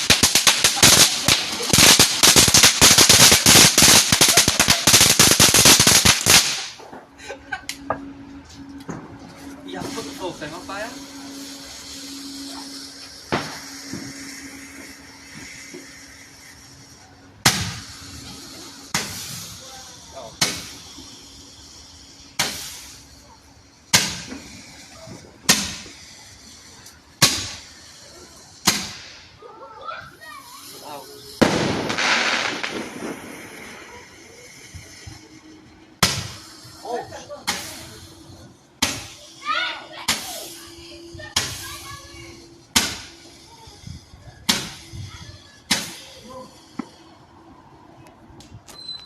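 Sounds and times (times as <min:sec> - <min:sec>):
firework pops with hiss: 0:00.0 - 0:07.1, 0:11.0 - 0:29.4, 0:30.2 - 0:47.1, 0:48.0 - 0:49.0.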